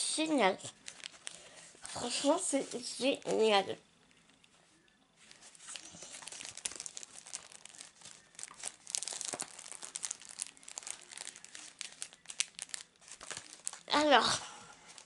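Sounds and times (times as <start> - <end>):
paper packaging rustling and crinkling: 0.7 - 4.6, 5.2 - 14.0, 14.8 - 15.0.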